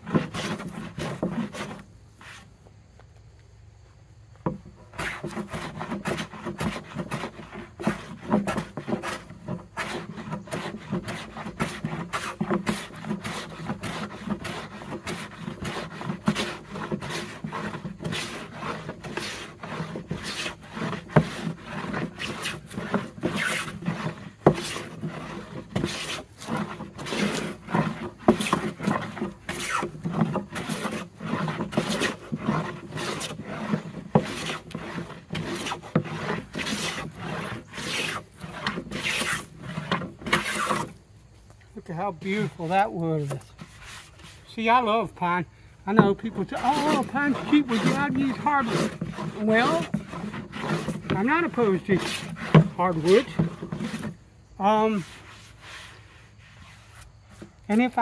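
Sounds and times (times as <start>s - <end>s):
hand plane shaving hiss: 0.0s - 2.8s, 4.5s - 58.0s.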